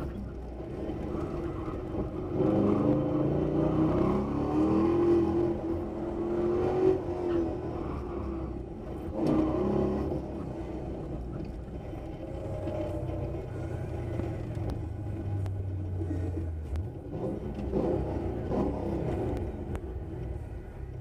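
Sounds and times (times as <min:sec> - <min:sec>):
car engine under load: 0:00.0 - 0:21.0.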